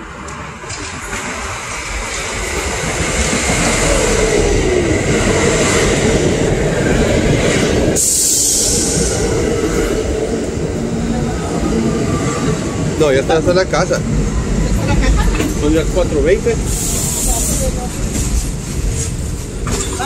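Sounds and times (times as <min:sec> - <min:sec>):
subway train rumbling and rattling: 0:00.0 - 0:20.0.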